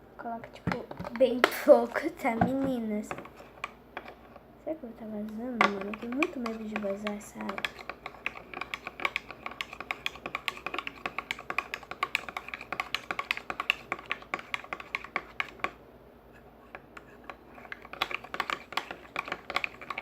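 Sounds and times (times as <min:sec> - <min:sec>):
sticky slime being stirred: 0:00.4 - 0:04.4, 0:05.0 - 0:20.0.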